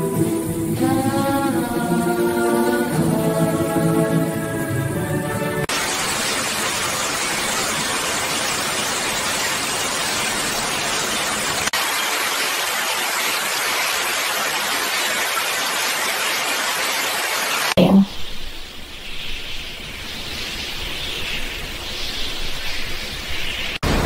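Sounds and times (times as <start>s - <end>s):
steady hiss of noise: 0.0s - 24.0s.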